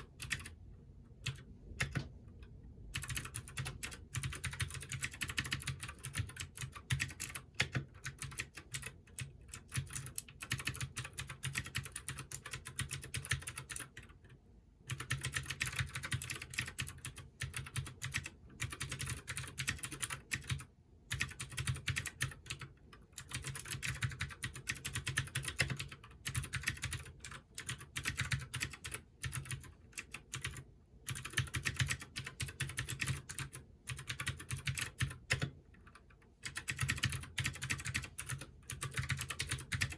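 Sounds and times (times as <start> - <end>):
clicky mechanical keyboard typing: 0.0 - 39.9.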